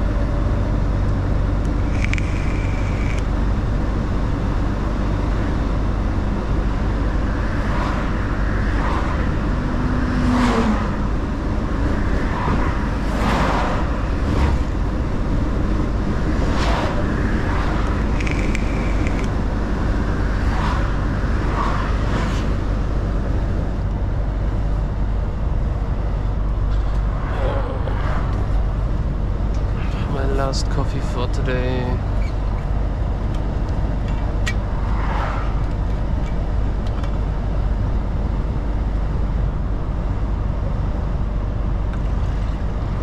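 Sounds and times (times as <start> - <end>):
truck engine and road drone: 0.0 - 43.0.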